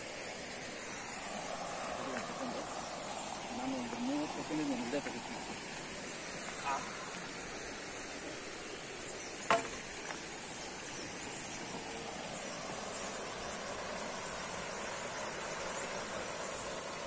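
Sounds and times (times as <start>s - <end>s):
high-pitched insect drone: 0.0s - 17.0s
stream rushing over rocks: 0.0s - 17.0s.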